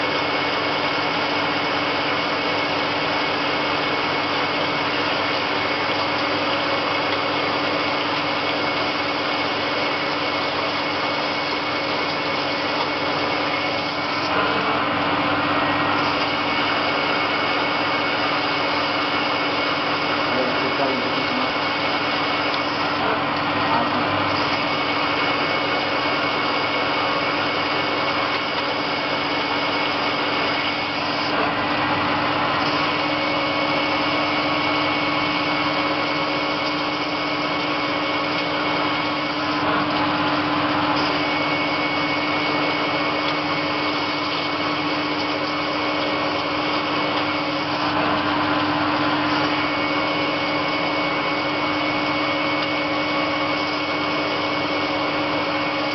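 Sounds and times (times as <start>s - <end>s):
lathe machine hum: 0.0s - 55.9s.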